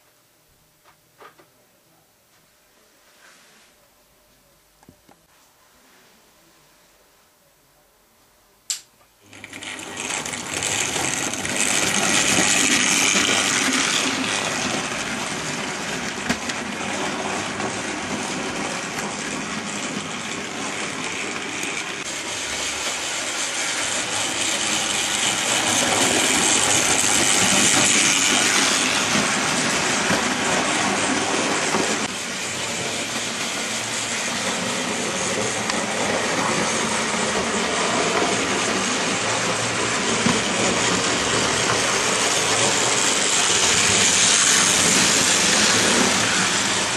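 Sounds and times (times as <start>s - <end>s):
model train motor whirring: 9.2s - 46.9s.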